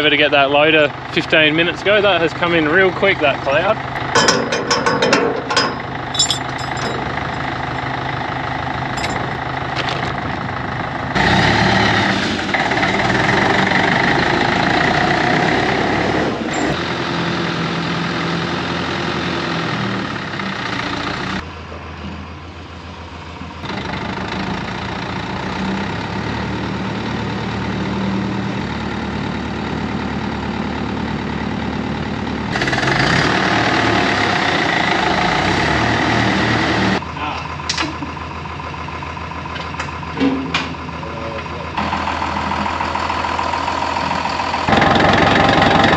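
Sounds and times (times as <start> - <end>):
tractor engine idling: 0.0 - 11.2, 16.4 - 35.4, 36.9 - 45.9.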